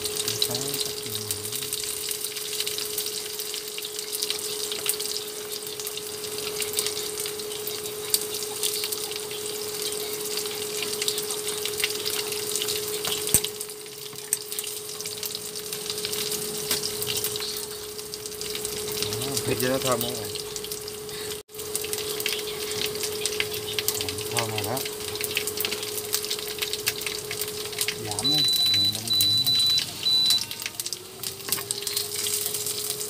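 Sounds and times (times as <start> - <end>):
oil sizzling in a frying pan: 0.0 - 33.0.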